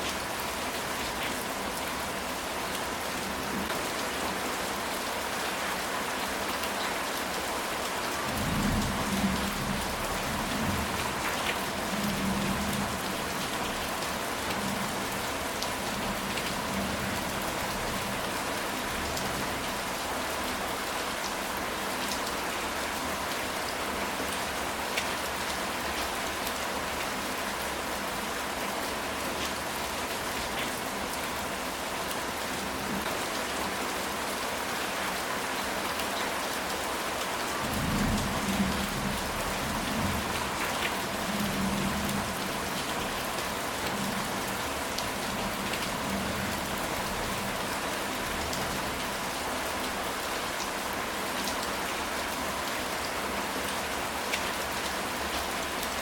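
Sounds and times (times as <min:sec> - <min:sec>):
rain on a tile roof: 0:00.0 - 0:56.0.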